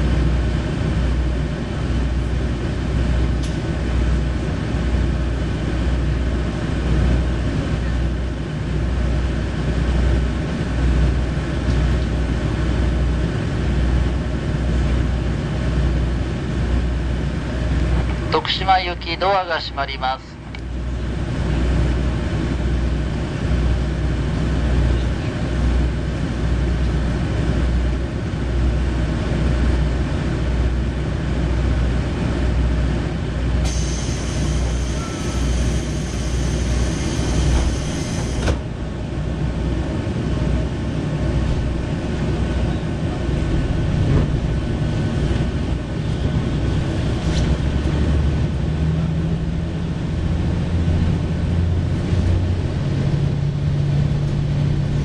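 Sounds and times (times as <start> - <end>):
railcar diesel engine droning: 0.0 - 55.0.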